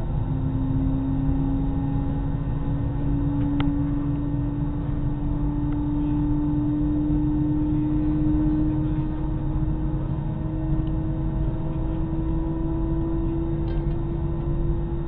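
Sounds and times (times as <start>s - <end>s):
airliner engines droning in cabin: 0.0s - 15.0s.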